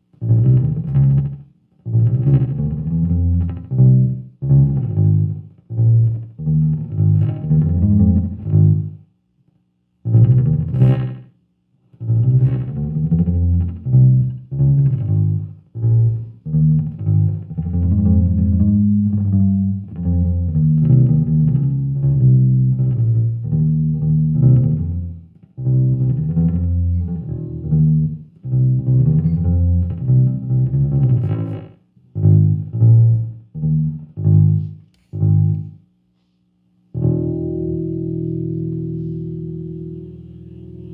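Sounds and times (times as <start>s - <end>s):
bass guitar with delay: 0.0s - 9.1s, 10.1s - 11.3s, 11.9s - 35.8s, 36.9s - 40.9s.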